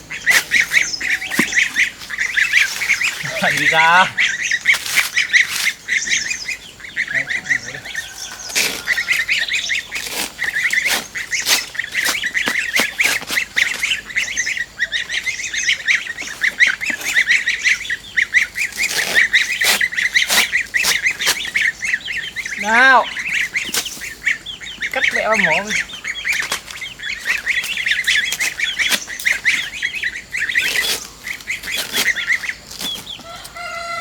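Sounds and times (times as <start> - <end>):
waterfowl honking and quacking: 0.0 - 34.0.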